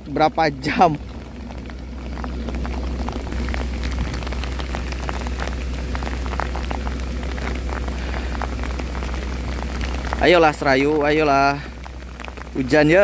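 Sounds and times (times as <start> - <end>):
heavy rain falling: 0.0 - 13.0
low rumble: 0.0 - 13.0
raindrops tapping close by: 0.0 - 13.0.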